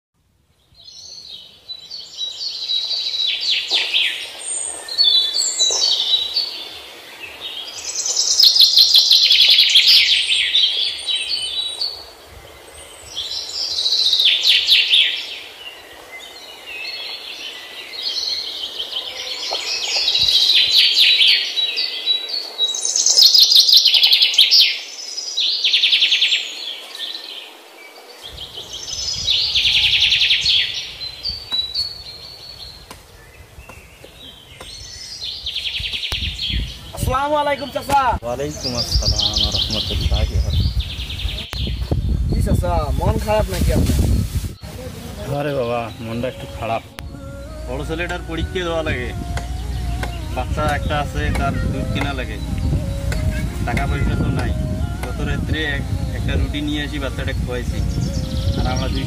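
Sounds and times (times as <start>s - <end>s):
songbirds chirping and trilling: 0.4s - 59.0s.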